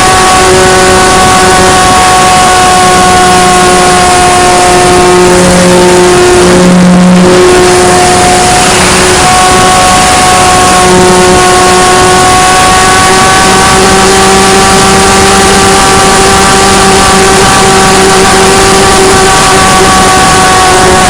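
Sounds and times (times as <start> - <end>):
model plane motor buzzing: 0.0 - 21.0.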